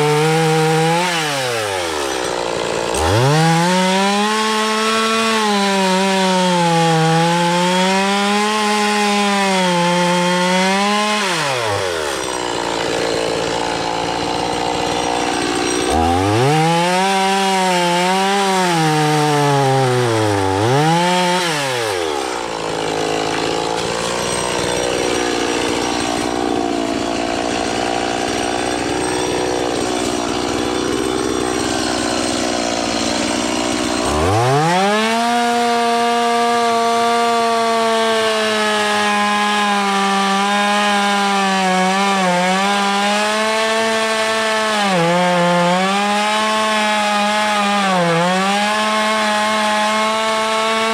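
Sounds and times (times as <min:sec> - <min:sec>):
chainsaw revving and cutting: 0:00.0 - 0:50.9.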